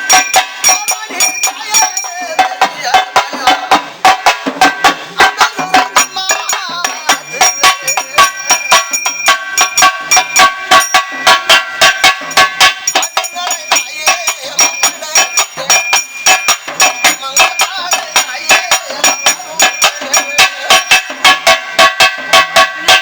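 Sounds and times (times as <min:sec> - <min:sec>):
bright metallic ringing: 0:00.0 - 0:23.0
drums played with sticks: 0:00.0 - 0:23.0.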